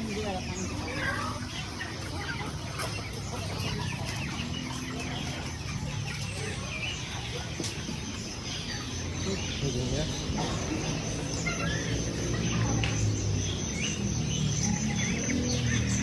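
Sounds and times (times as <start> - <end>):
caged birds chirping: 0.0 - 16.0
chicken clucking: 0.0 - 16.0.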